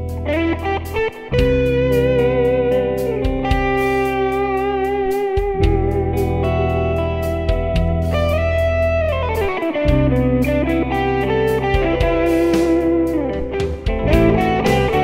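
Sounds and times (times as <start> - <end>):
bass and drums: 0.0 - 15.0
electric guitar lead: 0.0 - 15.0.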